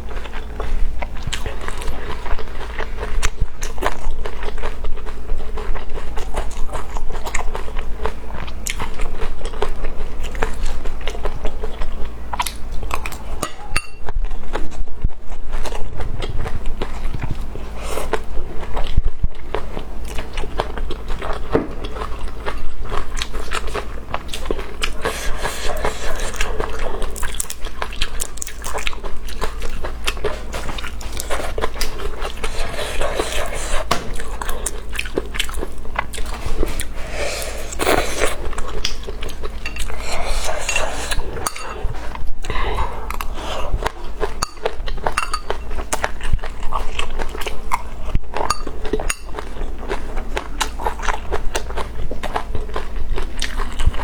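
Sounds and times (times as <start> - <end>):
chewing and mouth smacking: 0.0 - 54.0.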